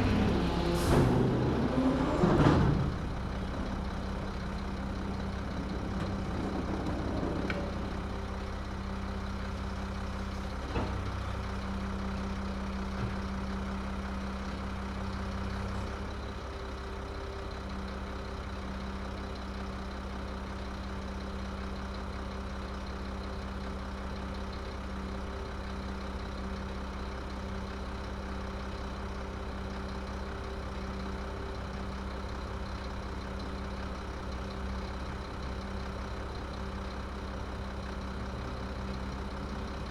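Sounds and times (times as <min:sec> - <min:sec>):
garbage truck engine idling: 0:00.0 - 0:39.9.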